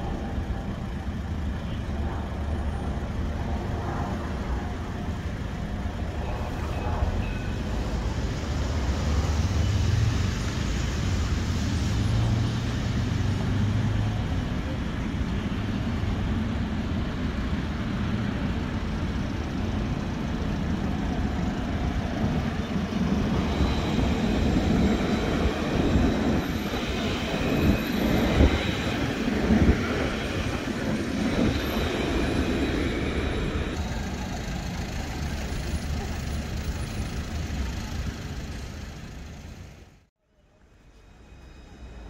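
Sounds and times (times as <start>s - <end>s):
road traffic: 0.0s - 42.0s
tram whine and wheel rumble: 0.0s - 42.0s
tram clunks: 2.8s - 39.8s.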